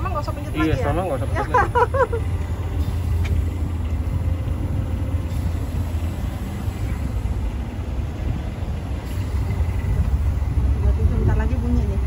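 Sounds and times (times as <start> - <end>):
motor rumbling: 0.0 - 12.0.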